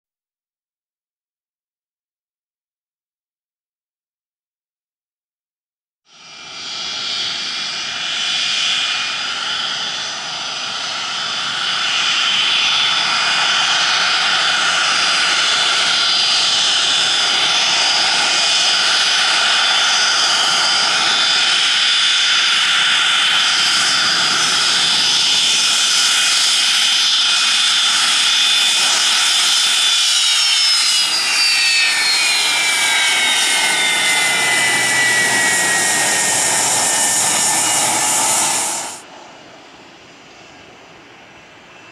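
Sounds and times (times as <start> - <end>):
high-pitched turbine whine: 6.1 - 41.9
jet engines running: 6.2 - 41.8.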